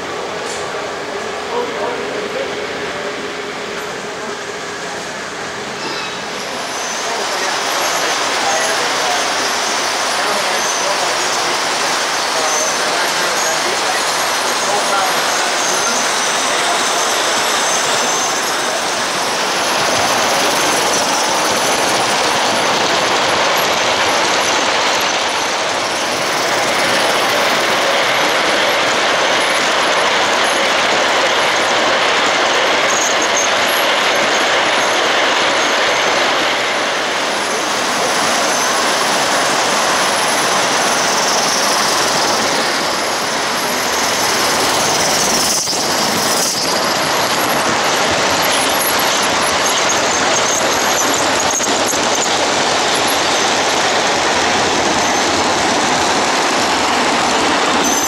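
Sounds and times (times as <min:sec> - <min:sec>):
model locomotive steam: 0:00.0 - 0:58.0
wheels clattering on metal track: 0:05.8 - 0:36.2, 0:37.2 - 0:58.0.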